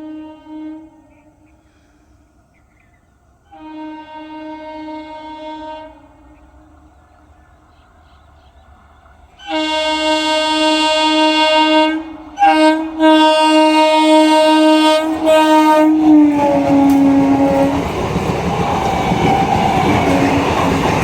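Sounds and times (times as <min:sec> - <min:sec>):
train air horn blasts: 0:00.0 - 0:02.4, 0:03.4 - 0:07.1, 0:09.4 - 0:18.1, 0:18.9 - 0:21.0.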